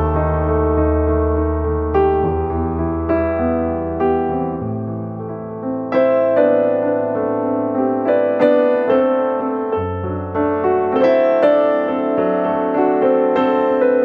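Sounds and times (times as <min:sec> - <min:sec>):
electric piano slow chords: 0:00.0 - 0:14.0.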